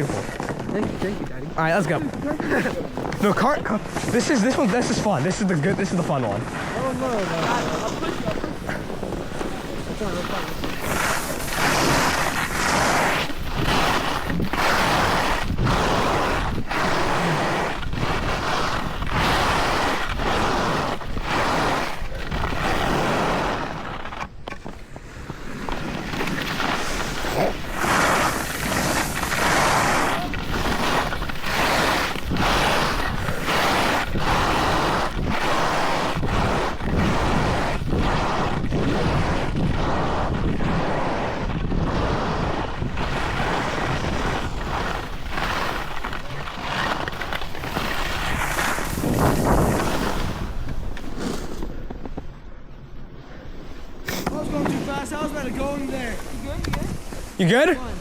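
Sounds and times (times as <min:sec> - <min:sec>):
wind on microphone: 0:00.0 - 0:23.9, 0:25.8 - 0:52.5, 0:53.6 - 0:58.0
ski edges scraping snow: 0:00.0 - 0:58.0.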